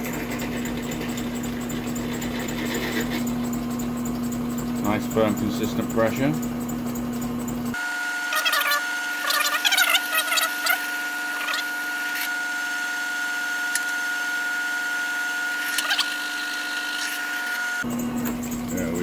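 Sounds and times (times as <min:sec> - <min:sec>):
drill squealing cutting steel: 0:00.0 - 0:06.8, 0:07.7 - 0:19.0
drill press motor whine: 0:00.0 - 0:19.0.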